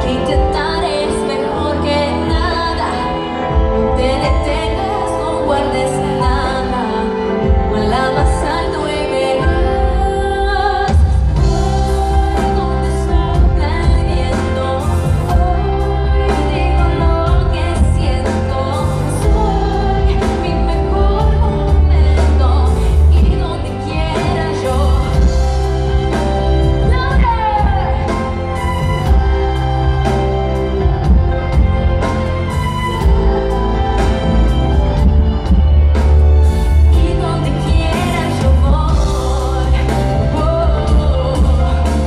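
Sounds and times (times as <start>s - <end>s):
live pop song over loudspeakers: 0.0s - 42.0s
woman singing: 0.0s - 42.0s.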